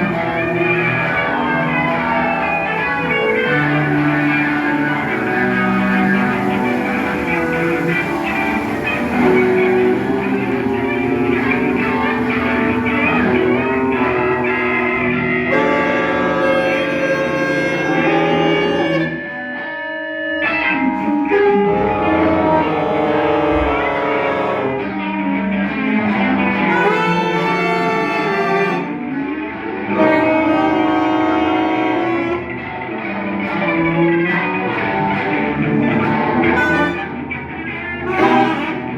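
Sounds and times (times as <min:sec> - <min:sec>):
ensemble holding sustained notes: 0:00.0 - 0:38.9.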